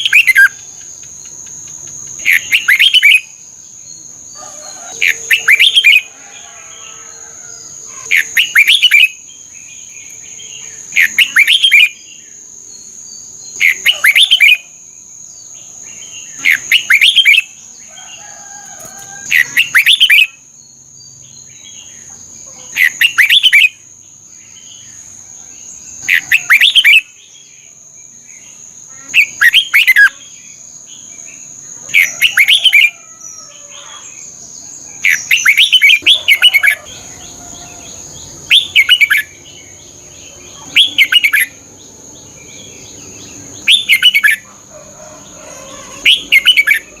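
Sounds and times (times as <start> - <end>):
bird singing: 0.0 - 47.0.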